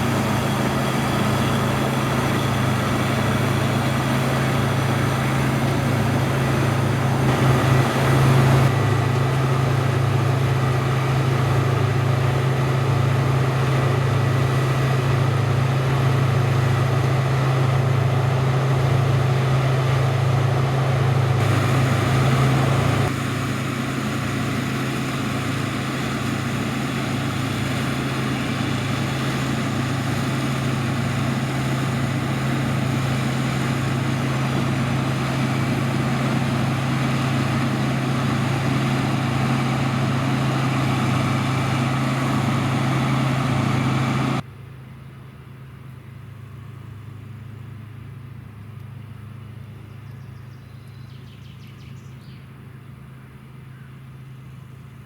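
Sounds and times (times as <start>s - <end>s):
diesel machinery humming: 0.0s - 55.0s.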